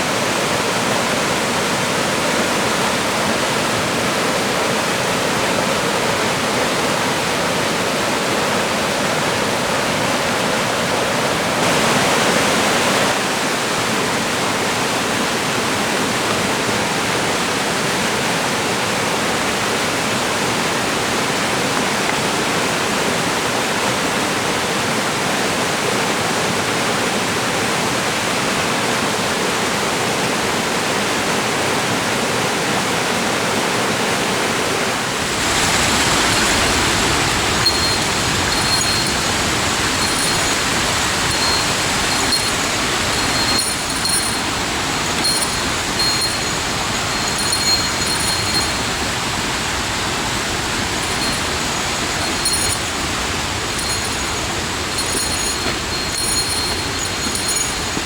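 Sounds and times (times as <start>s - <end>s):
rushing stream and waterfall: 0.0s - 58.0s.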